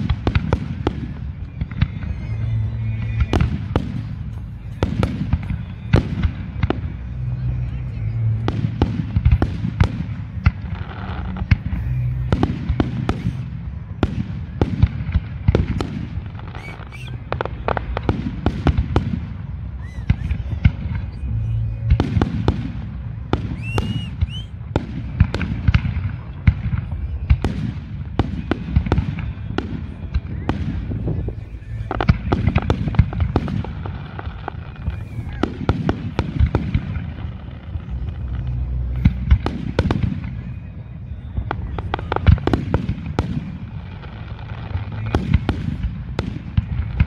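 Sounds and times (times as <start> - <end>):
fireworks bangs and crackles: 0.0 - 47.0
low rumble: 0.0 - 47.0.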